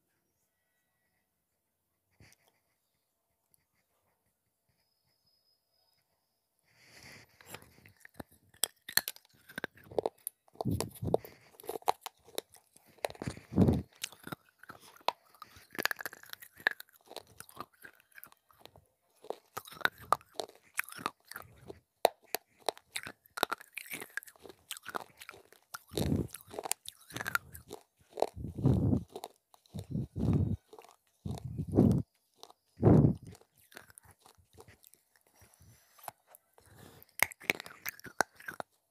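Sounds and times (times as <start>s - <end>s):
crunchy chewing: 6.8s - 38.9s.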